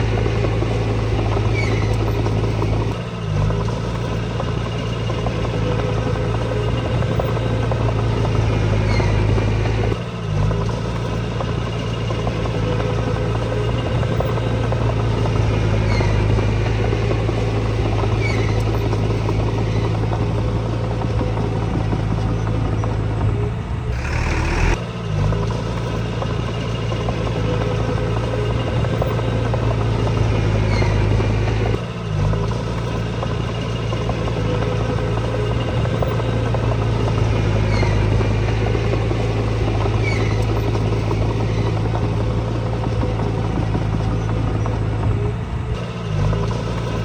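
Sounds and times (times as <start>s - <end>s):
heavy machinery diesel engine: 0.0s - 47.0s.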